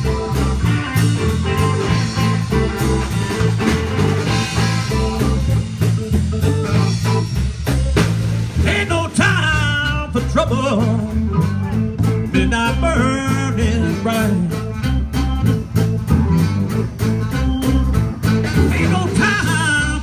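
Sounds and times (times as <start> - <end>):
blues band playing: 0.0 - 20.0
guitar: 0.0 - 20.0.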